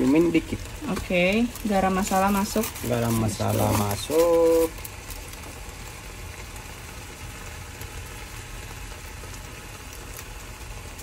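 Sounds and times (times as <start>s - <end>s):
curry sizzling in a frying pan: 0.0s - 11.0s.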